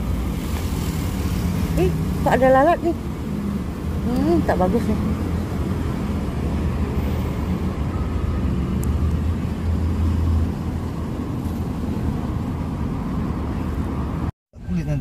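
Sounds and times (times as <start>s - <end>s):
motor vehicle engine humming: 0.0s - 15.0s.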